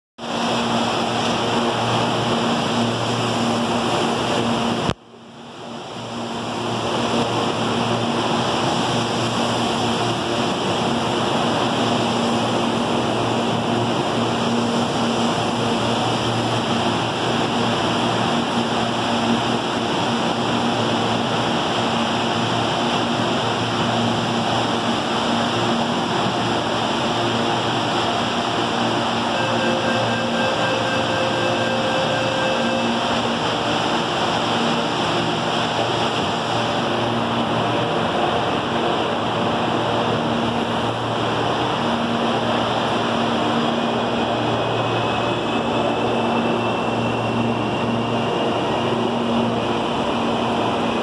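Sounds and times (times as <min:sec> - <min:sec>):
faint high whine: 0:00.2 - 0:51.0
train rushing noise: 0:00.2 - 0:51.0.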